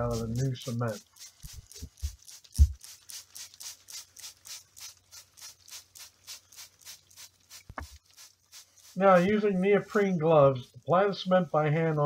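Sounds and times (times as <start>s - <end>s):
water spray hissing: 0.0s - 12.0s.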